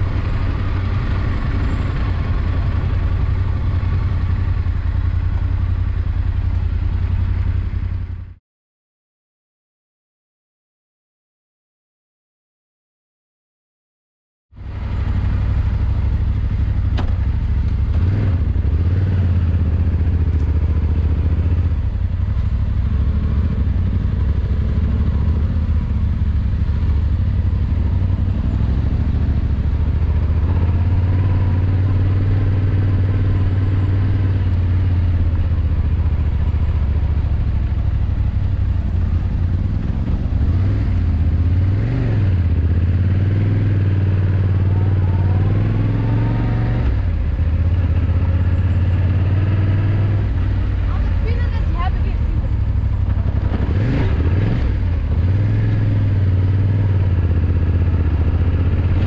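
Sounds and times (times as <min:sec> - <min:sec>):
motorcycle engine running: 0:00.0 - 0:08.4, 0:14.6 - 0:59.0.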